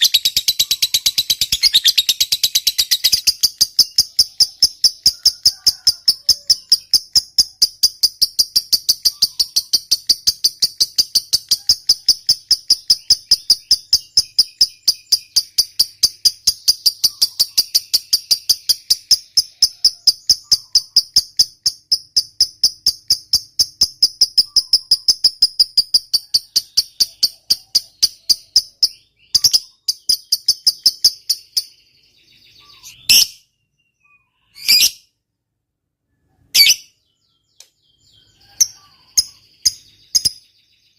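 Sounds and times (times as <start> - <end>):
bird sharp calls: 0.0 - 7.0, 8.6 - 21.2, 24.3 - 25.3, 26.2 - 35.1, 36.2 - 40.6
lovebird shrill chattering trill: 0.0 - 31.8, 32.4 - 33.5, 34.4 - 35.0, 36.6 - 37.0, 38.1 - 40.5.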